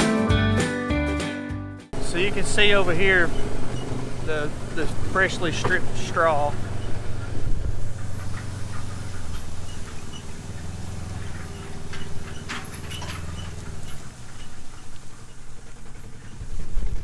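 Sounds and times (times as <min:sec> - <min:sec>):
low steady rumble: 0:02.0 - 0:17.0.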